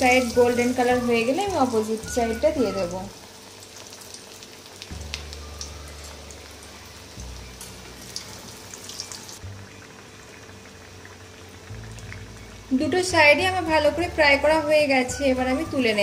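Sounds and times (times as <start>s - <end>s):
potatoes deep-frying in hot oil: 0.0s - 16.0s
quiet background music: 0.0s - 16.0s.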